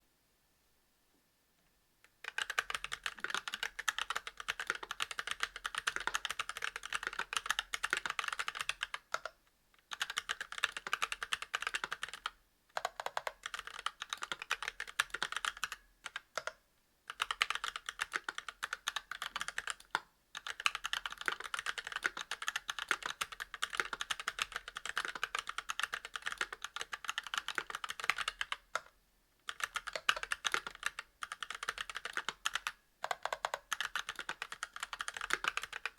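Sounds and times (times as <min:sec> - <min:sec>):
mechanical keyboard typing: 0:02.2 - 0:28.9, 0:29.5 - 0:35.9.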